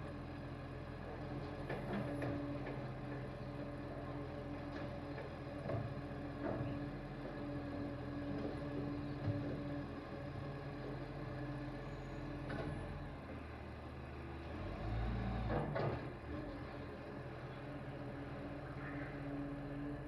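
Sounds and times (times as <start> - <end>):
garbage truck diesel engine: 0.0 - 20.0.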